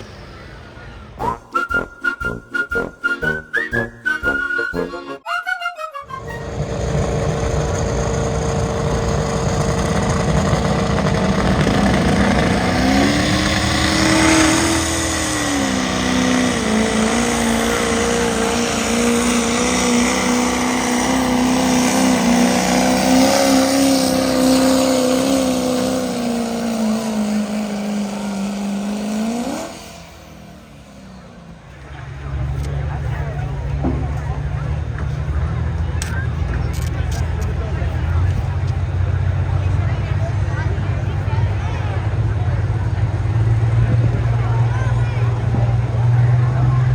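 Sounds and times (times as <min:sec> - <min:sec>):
pulling engine at full throttle: 0:06.0 - 0:46.9.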